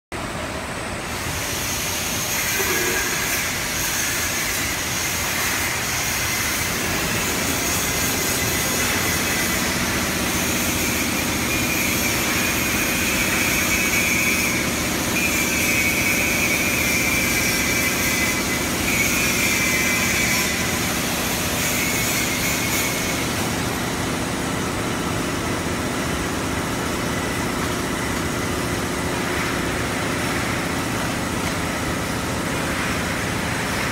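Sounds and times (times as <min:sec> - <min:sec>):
conveyor machine hum and hiss: 0:00.2 - 0:33.9.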